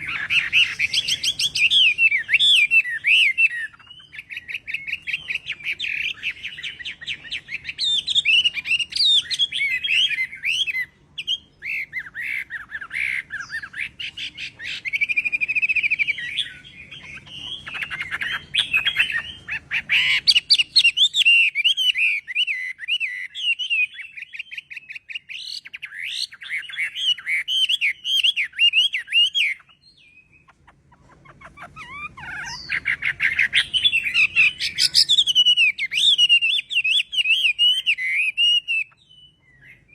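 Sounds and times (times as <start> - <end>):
bird singing whistled trills: 0.0 - 30.7, 31.4 - 39.9.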